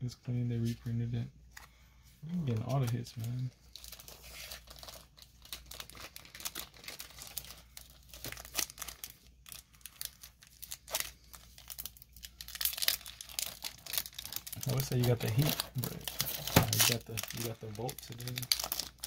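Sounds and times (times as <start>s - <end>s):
foil wrapper crinkling: 2.5s - 19.0s
foil wrapper being torn open: 2.7s - 19.0s.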